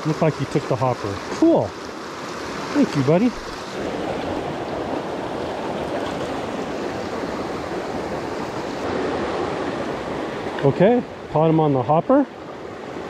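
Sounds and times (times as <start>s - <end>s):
stream flowing over rocks: 0.0s - 13.0s.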